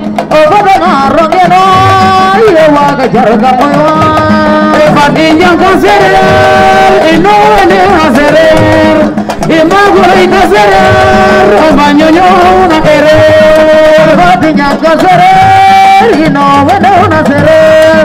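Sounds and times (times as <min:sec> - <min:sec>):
woman singing a cappella: 0:00.3 - 0:18.0.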